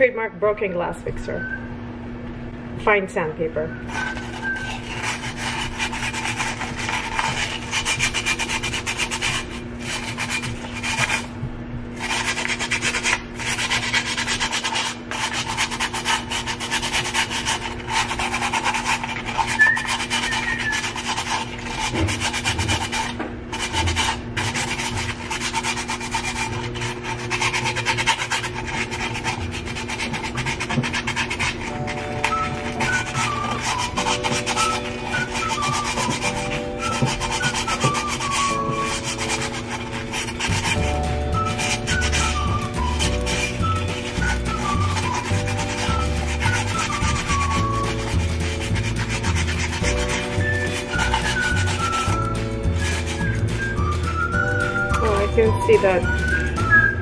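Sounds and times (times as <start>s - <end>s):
sandpaper rasping on glass: 3.9s - 11.3s, 12.0s - 56.6s.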